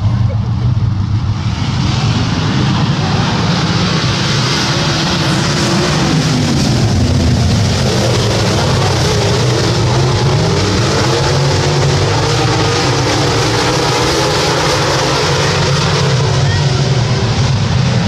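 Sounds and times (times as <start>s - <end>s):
race car engines roaring: 0.0s - 18.0s.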